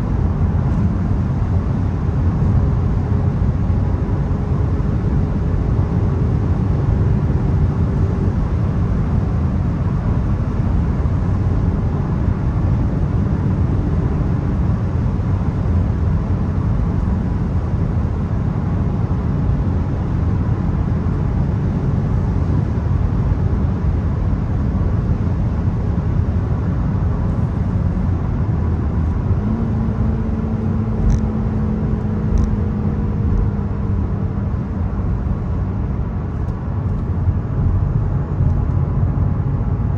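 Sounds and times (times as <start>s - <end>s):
car engine running: 0.0s - 39.9s
road and tyre noise: 0.0s - 39.9s.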